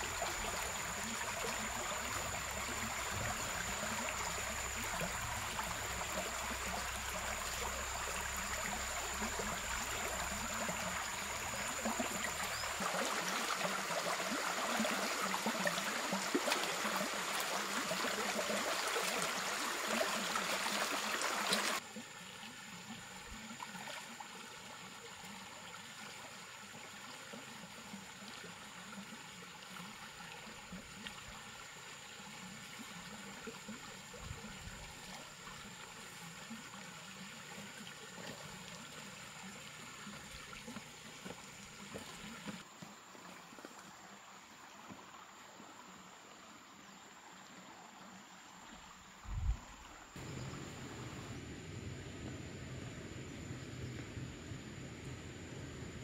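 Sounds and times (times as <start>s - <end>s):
running water rushing: 0.0s - 46.4s, 47.1s - 56.0s.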